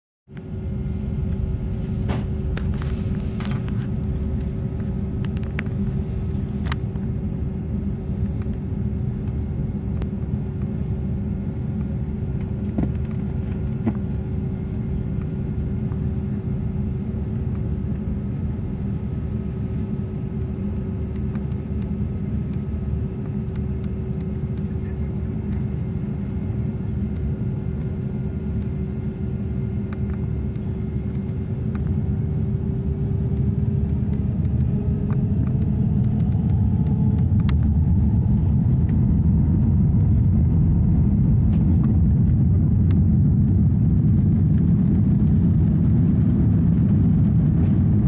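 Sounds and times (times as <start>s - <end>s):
aircraft cabin rumble and hum: 0.3s - 48.0s.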